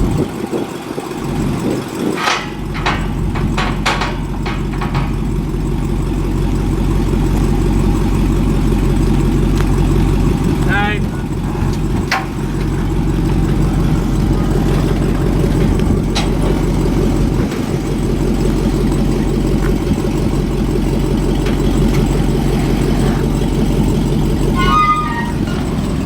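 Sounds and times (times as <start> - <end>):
car engine running: 0.0 - 26.0
road noise: 0.0 - 26.0.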